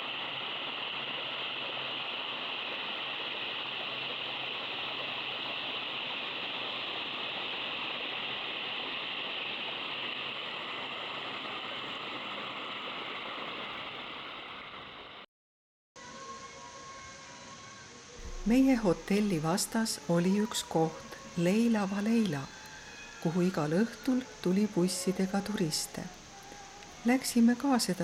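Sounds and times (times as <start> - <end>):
flowing water rushing: 0.0 - 15.0, 18.2 - 28.0.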